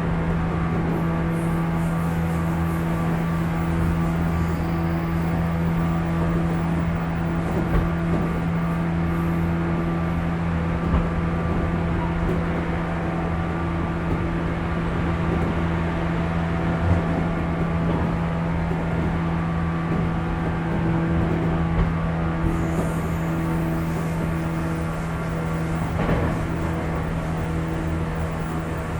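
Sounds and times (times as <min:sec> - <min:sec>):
steady motor hum: 0:00.0 - 0:28.9
train wheels rumbling on rails: 0:00.0 - 0:28.9.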